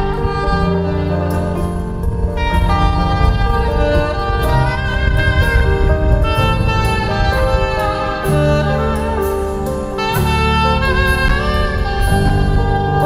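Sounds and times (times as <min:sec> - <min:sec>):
saxophone melody: 0:00.0 - 0:13.0.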